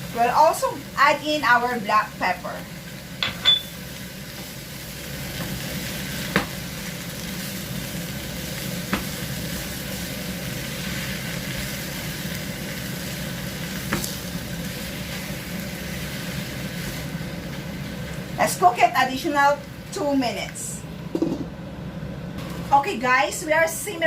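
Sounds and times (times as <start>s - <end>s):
food sizzling in a pan: 0.0s - 20.9s.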